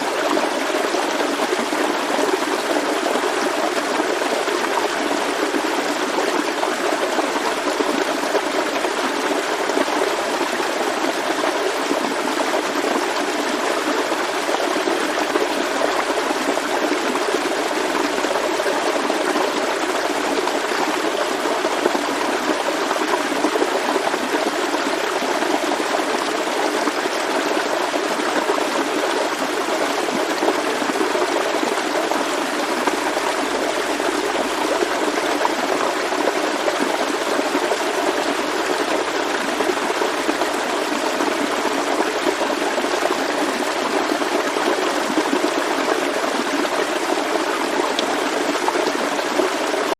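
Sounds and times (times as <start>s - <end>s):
stream babbling: 0.0s - 49.9s.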